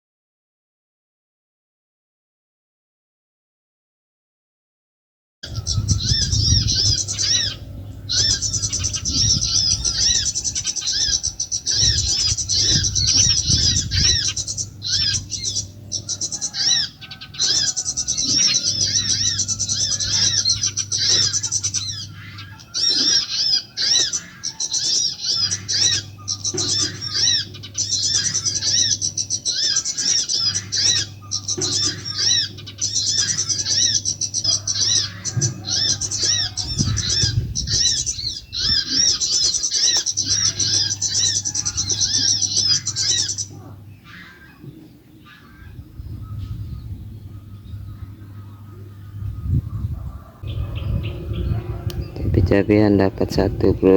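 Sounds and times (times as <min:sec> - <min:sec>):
small birds chirping: 0:05.4 - 0:53.9
steady low hum: 0:05.4 - 0:53.9.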